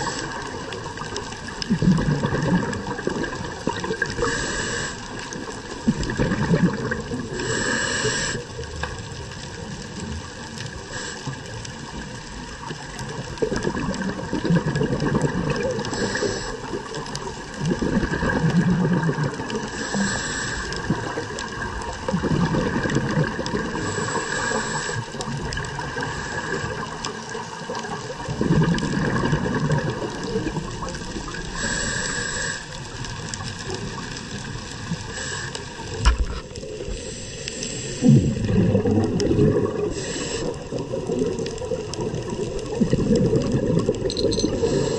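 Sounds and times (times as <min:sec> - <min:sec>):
exhaled bubbles rumbling: 0:00.0 - 0:44.9
muffled underwater noise: 0:00.0 - 0:44.9.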